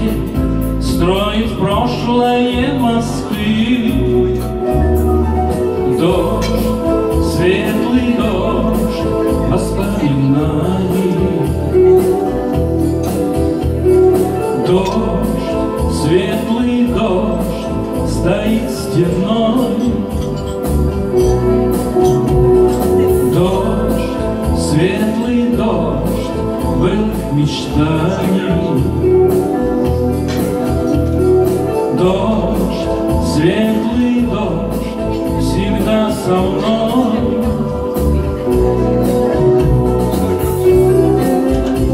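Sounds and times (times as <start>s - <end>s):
bass accompaniment: 0.0s - 41.9s
melody line: 0.0s - 41.9s.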